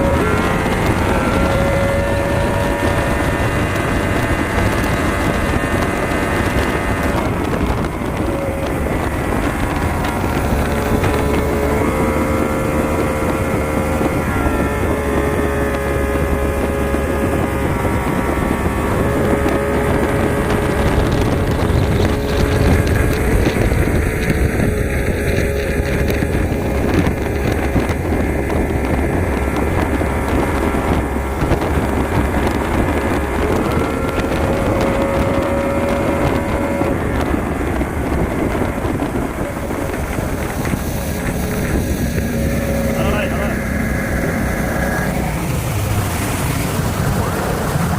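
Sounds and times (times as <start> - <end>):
power boat engine running: 0.0 - 47.9
wind buffeting microphone: 0.0 - 47.9.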